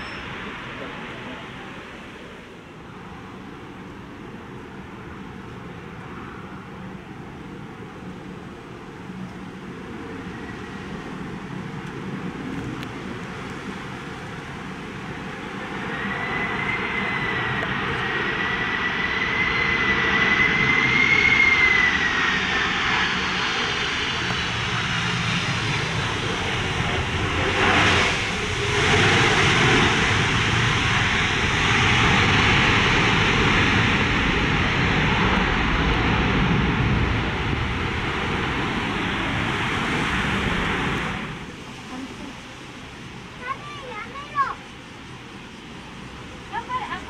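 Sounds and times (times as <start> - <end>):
jet engine roar: 0.0 - 47.0
jet engines whining: 0.0 - 47.0.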